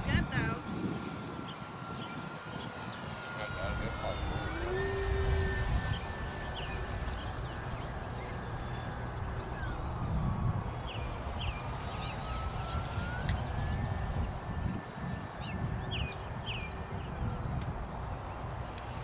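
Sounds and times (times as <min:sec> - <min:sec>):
wind rumble on microphone: 0:00.0 - 0:02.8, 0:03.4 - 0:19.0
model plane motor whine: 0:00.0 - 0:19.0.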